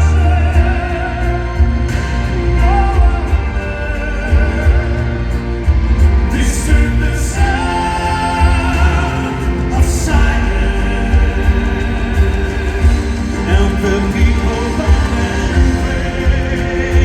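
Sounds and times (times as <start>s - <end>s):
amplified band with heavy bass: 0.0s - 17.0s
operatic pop vocals: 0.0s - 17.0s.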